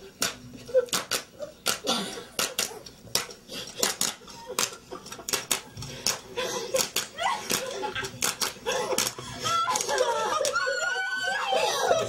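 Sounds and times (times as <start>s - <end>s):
hand claps: 0.2s - 10.6s.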